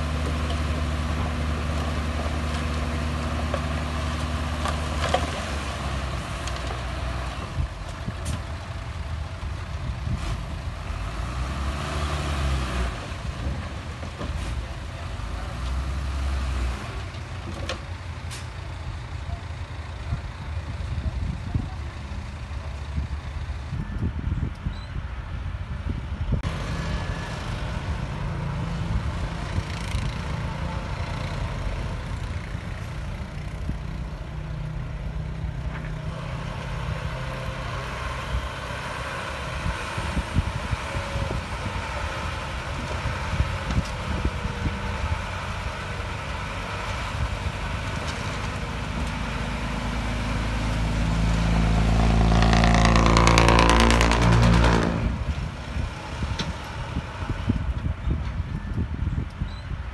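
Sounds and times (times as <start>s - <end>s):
truck diesel engine revving: 0.0s - 17.4s, 26.4s - 57.7s.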